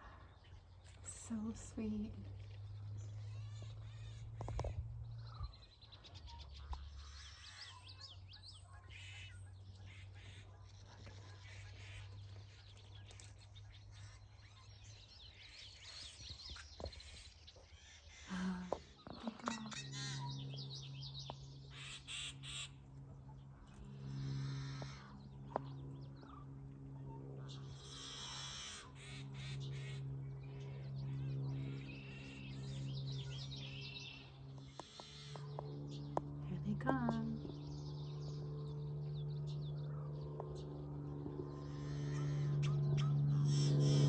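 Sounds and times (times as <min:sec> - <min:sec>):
birds calling and singing: 0:00.0 - 0:44.0
steady low hum: 0:00.0 - 0:44.0.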